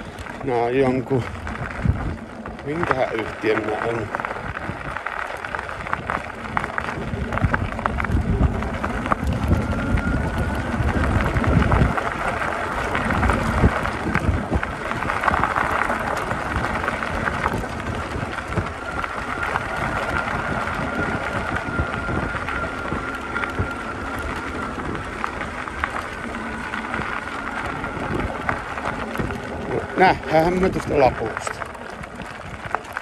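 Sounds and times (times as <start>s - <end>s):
thin steady whine: 0.0s - 33.0s
tyres crunching on gravel: 0.0s - 33.0s
wind noise on microphone: 0.0s - 33.0s.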